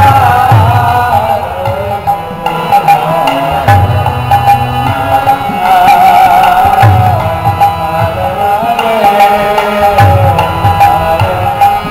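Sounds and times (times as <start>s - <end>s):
harmonium chords: 0.0s - 11.9s
person singing a melodic chant: 0.0s - 11.9s.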